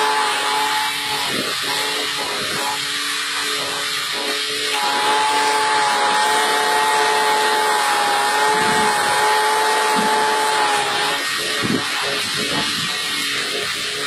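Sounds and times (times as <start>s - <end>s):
motor whine: 0.0s - 14.0s.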